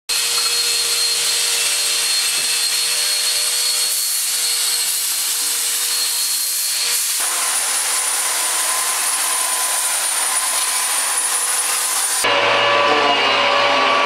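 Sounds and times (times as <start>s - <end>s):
chainsaw cutting wood: 0.1s - 12.3s
angle grinder grinding wood: 0.1s - 14.0s.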